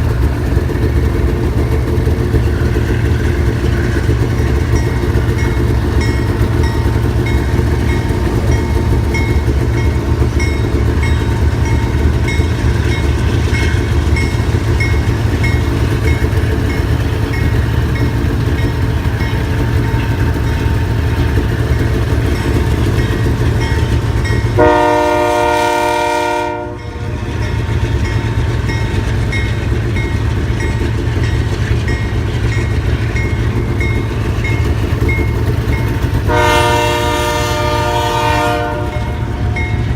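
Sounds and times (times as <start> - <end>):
snowmobile engine rumbling: 0.0 - 39.9.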